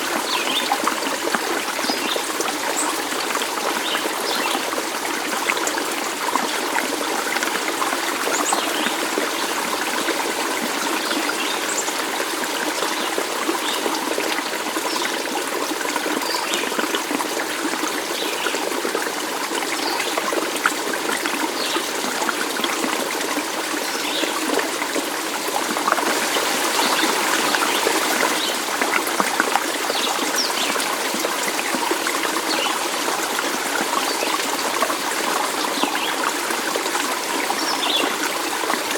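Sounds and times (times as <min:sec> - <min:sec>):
stream of water trickling: 0:00.0 - 0:38.9.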